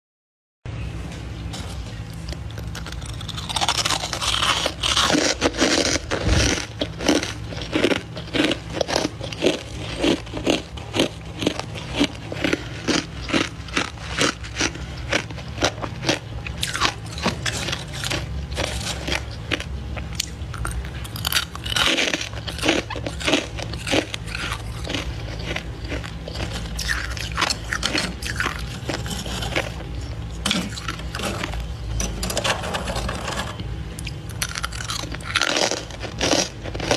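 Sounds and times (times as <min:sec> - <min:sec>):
frost crunching by hand: 0:02.1 - 0:31.8, 0:34.0 - 0:36.9.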